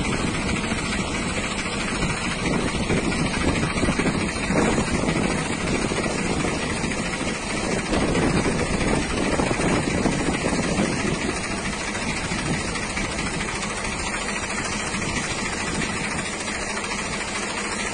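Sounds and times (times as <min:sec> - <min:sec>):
strong wind blowing: 0:00.0 - 0:16.9
wind buffeting microphone: 0:00.0 - 0:17.9.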